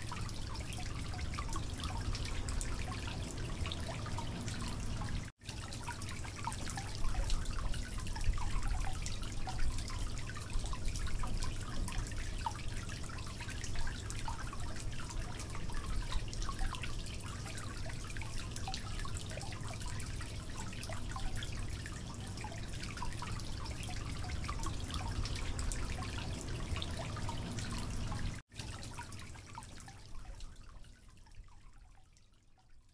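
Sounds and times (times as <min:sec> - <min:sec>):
water dripping and trickling: 0:00.0 - 0:32.9.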